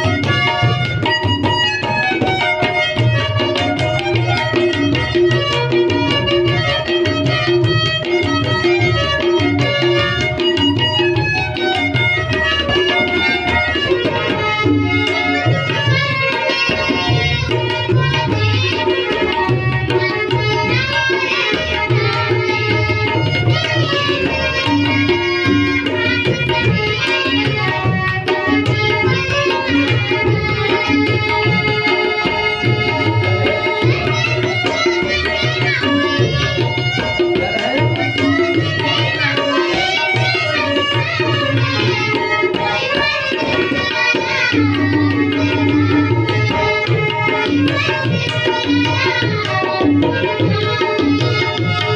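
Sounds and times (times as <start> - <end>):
tabla playing steady rhythm: 0.0 - 51.9
wavering melody: 0.0 - 51.9.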